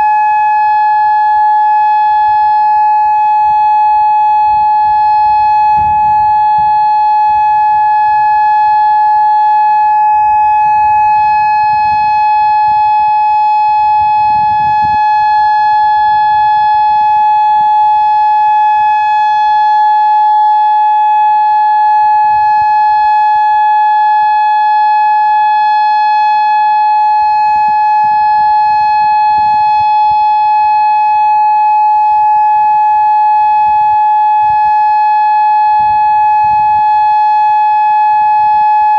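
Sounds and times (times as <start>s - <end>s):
electronic siren steady tone: 0.0s - 38.9s.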